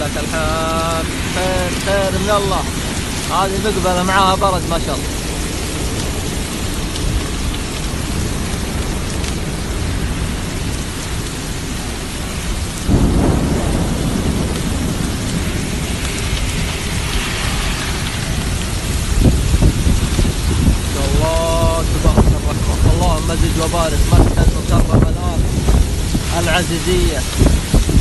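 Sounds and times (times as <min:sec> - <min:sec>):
heavy rain and hail on pavement: 0:00.0 - 0:28.0
low rumble: 0:00.0 - 0:28.0.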